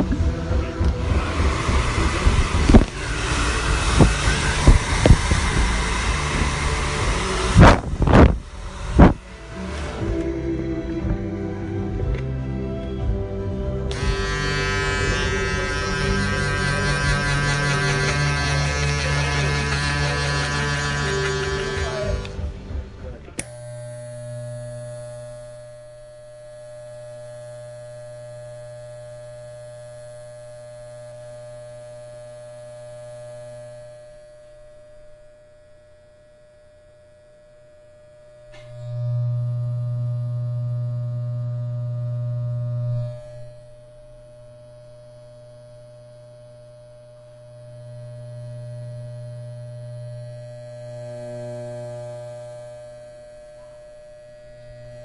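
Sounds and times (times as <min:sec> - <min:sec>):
electric hair clippers buzzing: 0:00.0 - 0:11.3, 0:13.0 - 0:55.0.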